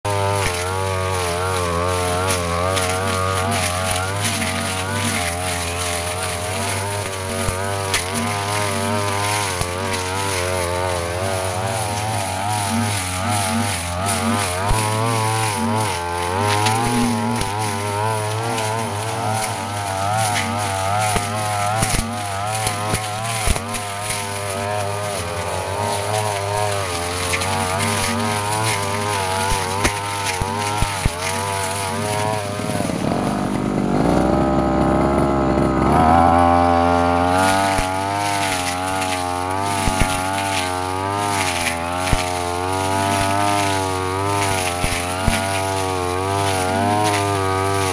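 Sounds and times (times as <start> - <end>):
brush cutter engine cutting grass: 0.0 - 47.9.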